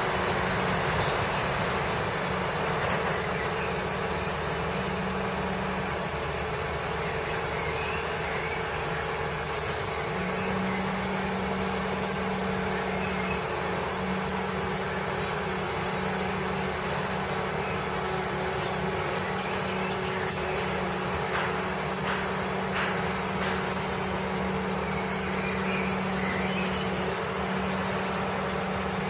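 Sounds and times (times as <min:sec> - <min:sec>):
diesel crane engine running: 0:00.0 - 0:29.0.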